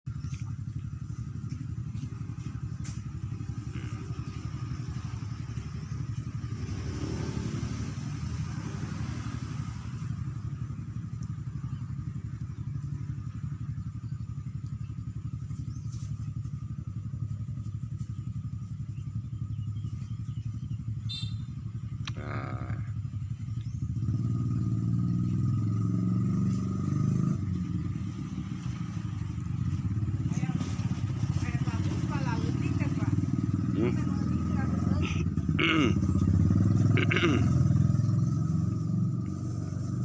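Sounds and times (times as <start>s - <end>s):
small engine rumbling: 0.1s - 40.0s.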